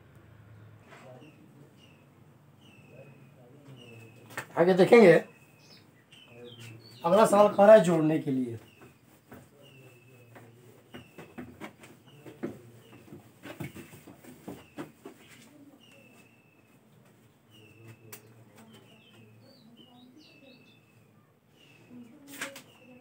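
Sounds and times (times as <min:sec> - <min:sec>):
bird chirping: 0:00.4 - 0:23.0.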